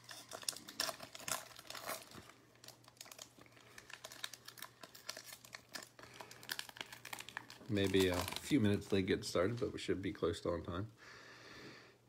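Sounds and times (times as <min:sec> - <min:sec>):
foil wrapper crinkling: 0:00.0 - 0:09.9.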